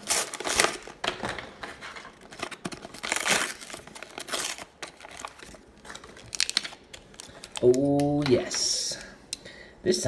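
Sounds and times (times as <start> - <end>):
plastic blister package crinkling: 0.0 - 8.8.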